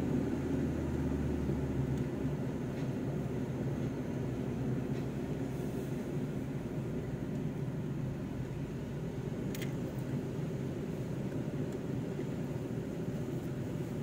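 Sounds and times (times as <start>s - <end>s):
engine and road rumble: 0.0s - 14.0s.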